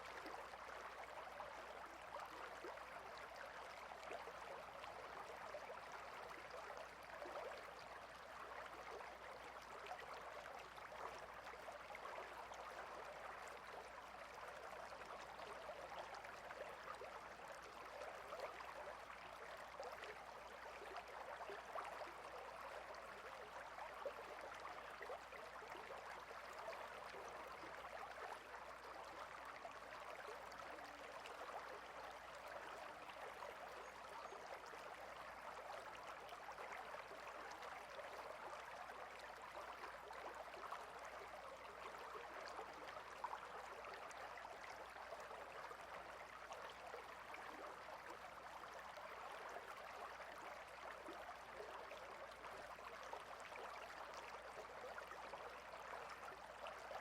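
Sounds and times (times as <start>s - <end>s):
small stream trickling: 0.0s - 57.0s.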